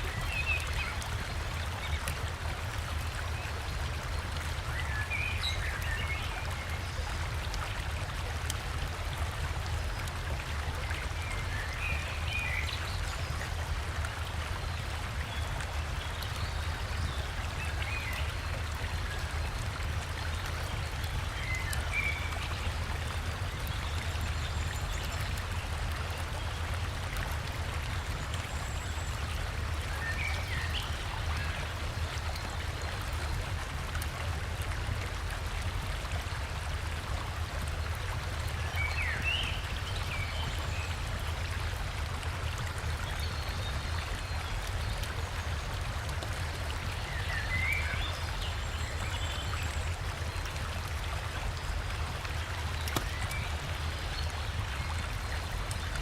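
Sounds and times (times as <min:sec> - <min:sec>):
river and waterfall rushing: 0:00.1 - 0:56.0.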